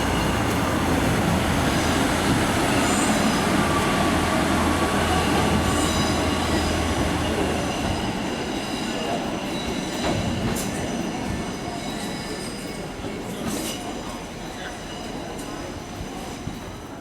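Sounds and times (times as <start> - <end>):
train wheels squealing: 1.7 - 17.0.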